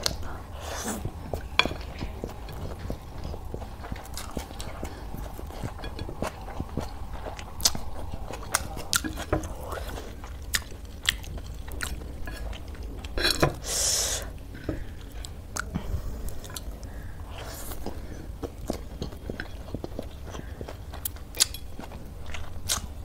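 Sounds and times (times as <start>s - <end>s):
chewing noodles: 0.0s - 23.0s.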